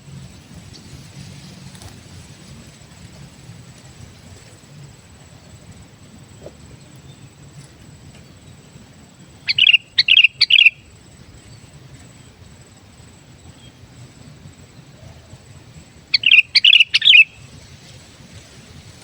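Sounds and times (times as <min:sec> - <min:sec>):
faint low background hum: 0:00.0 - 0:19.0.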